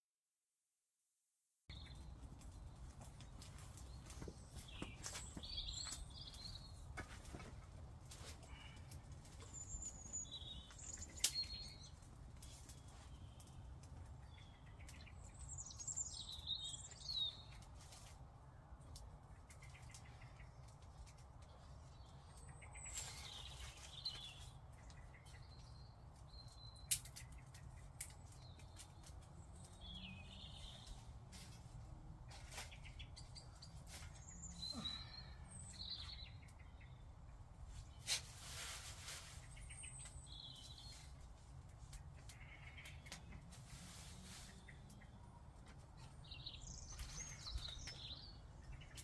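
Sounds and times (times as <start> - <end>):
faint birds chirping: 1.7 - 49.0.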